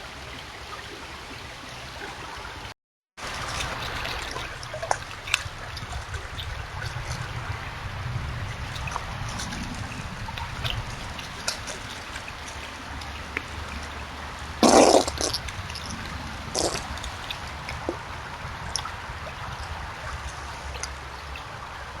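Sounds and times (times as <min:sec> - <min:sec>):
trickling water and drips: 0:00.0 - 0:22.0
beaver wet bursts: 0:03.2 - 0:07.6, 0:08.4 - 0:22.0.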